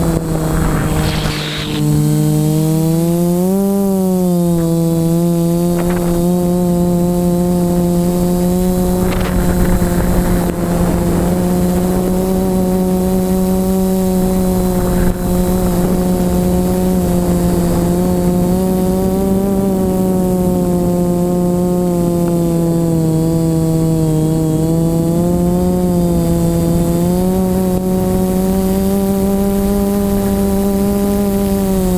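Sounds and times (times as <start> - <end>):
model aircraft motor whine: 0.0 - 31.9
wind rumbling on microphone: 0.0 - 31.9.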